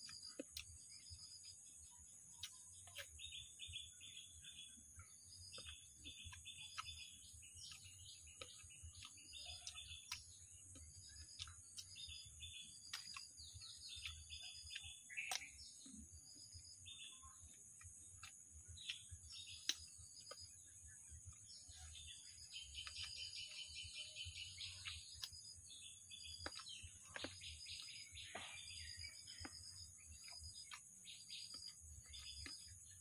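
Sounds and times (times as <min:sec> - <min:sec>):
birds chirping faintly: 0:00.0 - 0:33.0.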